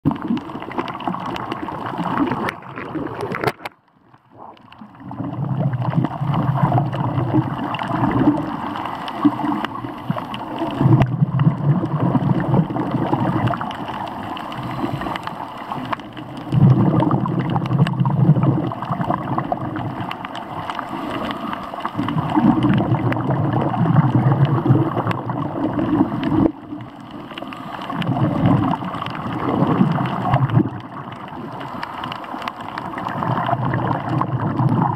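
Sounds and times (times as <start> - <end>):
underwater gurgling and rushing water: 0.0 - 34.9.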